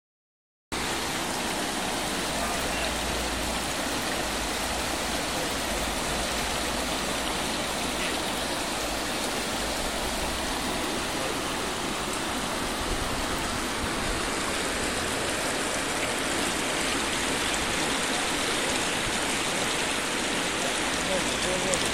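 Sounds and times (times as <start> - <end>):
floodwater rushing: 0.7 - 21.9.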